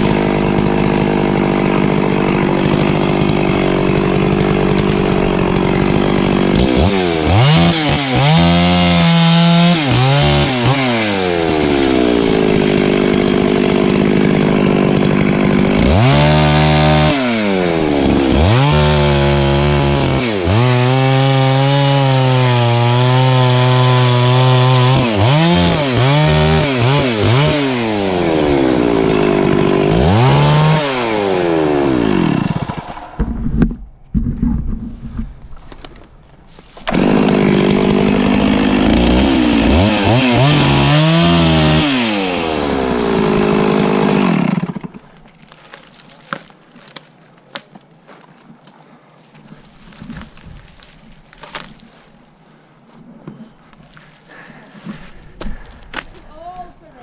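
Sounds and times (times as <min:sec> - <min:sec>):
chainsaw cutting wood: 0:00.0 - 0:47.7, 0:49.6 - 0:52.2, 0:53.8 - 0:57.0.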